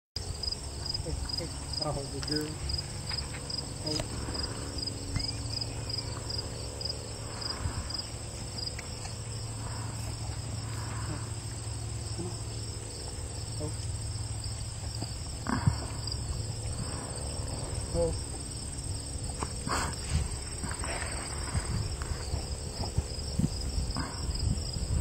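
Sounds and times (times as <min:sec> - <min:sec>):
insects chirping: 0:00.2 - 0:25.0
low steady hum: 0:00.2 - 0:25.0.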